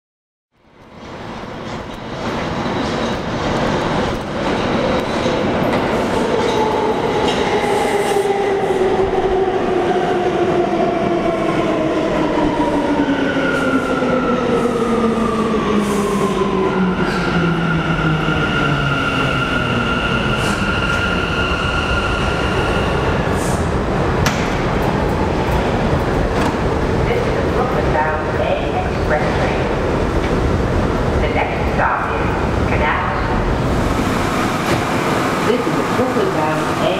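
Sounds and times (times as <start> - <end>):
subway train braking to a stop: 0.8 - 36.9.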